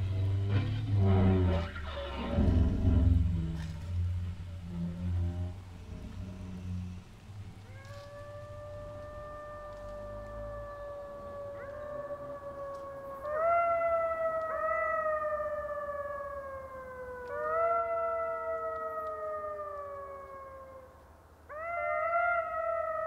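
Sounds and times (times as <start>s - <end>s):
jackals howling: 0.0s - 23.0s.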